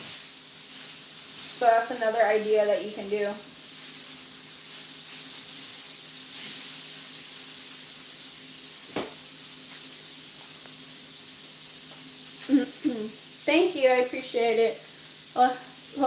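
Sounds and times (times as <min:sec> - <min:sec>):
meat and vegetables sizzling: 0:00.0 - 0:16.0.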